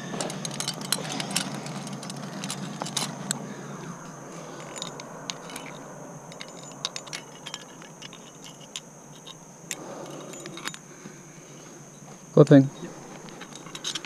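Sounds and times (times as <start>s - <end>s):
carabiners clinking: 0.0s - 14.0s.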